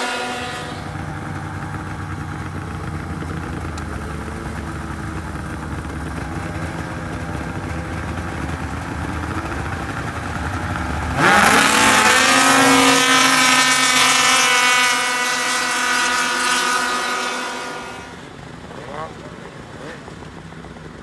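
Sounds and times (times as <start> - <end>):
snowmobile engines revving: 0.0 - 21.0.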